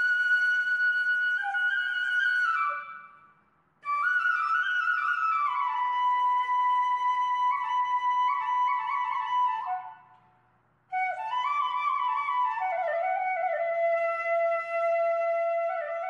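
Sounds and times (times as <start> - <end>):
slow flute melody: 0.0 - 10.2, 10.9 - 16.0.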